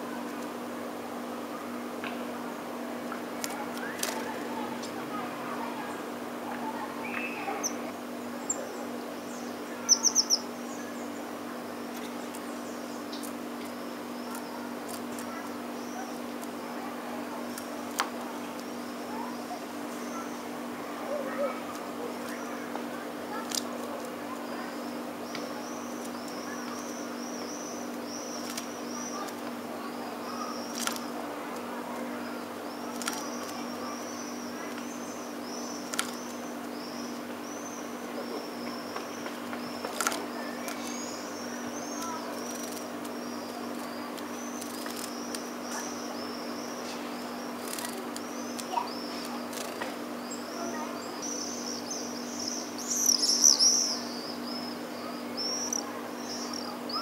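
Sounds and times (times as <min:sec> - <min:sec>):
songbird chirping: 0:03.0 - 0:31.3, 0:31.9 - 0:57.0.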